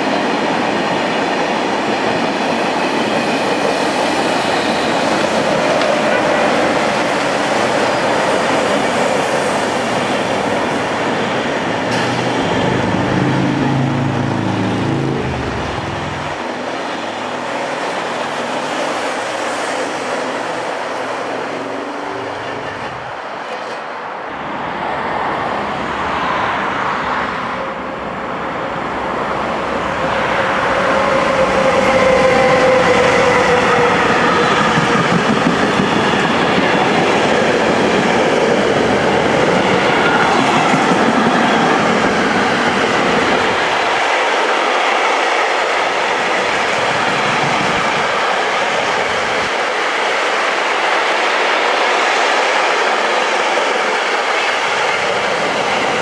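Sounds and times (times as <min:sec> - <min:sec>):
train wheels rumbling on rails: 0:00.0 - 0:24.1, 0:25.4 - 0:56.0.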